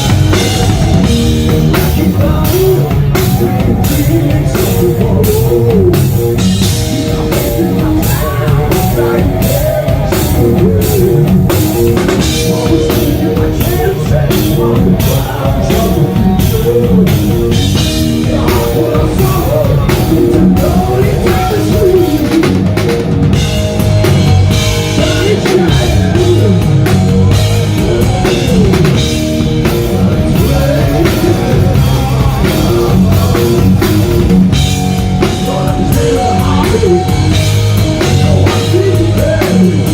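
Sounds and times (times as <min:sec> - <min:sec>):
person singing: 0:00.0 - 0:23.6, 0:24.5 - 0:39.9
bass guitar: 0:00.0 - 0:39.9
drum kit: 0:00.0 - 0:39.9
electric guitar: 0:00.0 - 0:39.9.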